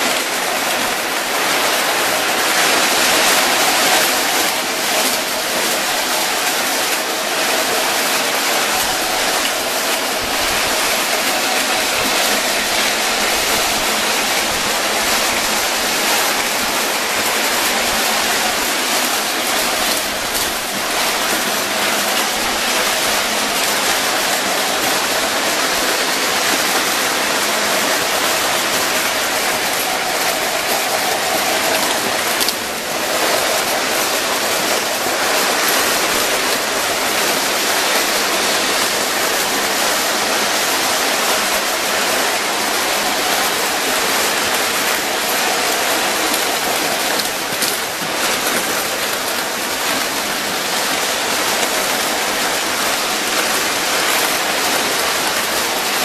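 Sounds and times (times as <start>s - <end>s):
model train wheels rushing on rails: 0.0s - 56.0s.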